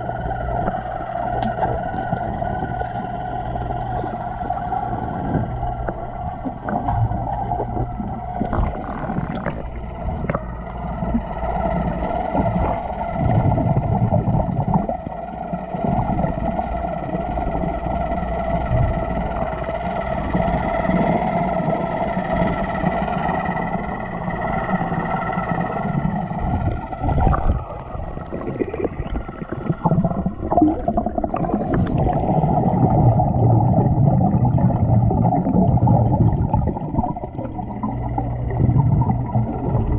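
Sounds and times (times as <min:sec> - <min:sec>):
water noise: 0:00.0 - 0:39.9.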